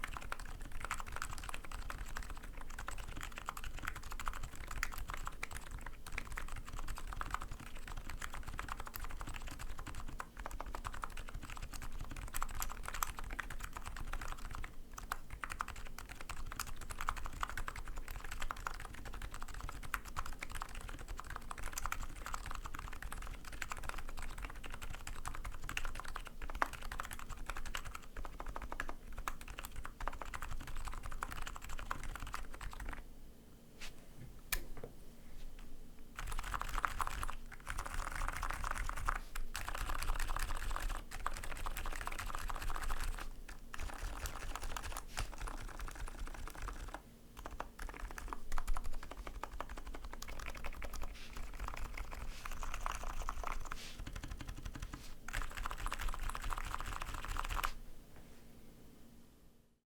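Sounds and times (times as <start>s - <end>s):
fast typing on keyboard: 0.0s - 33.0s, 36.2s - 57.8s.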